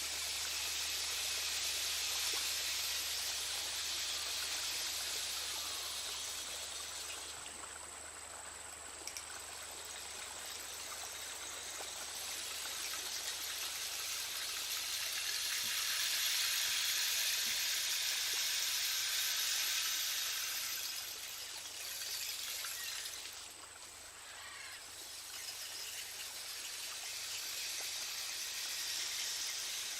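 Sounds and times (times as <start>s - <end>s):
soft rushing hiss: 0.0s - 29.9s.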